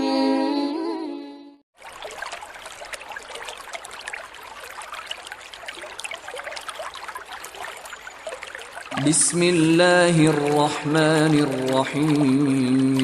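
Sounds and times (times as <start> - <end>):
stream water flowing: 1.8 - 13.0.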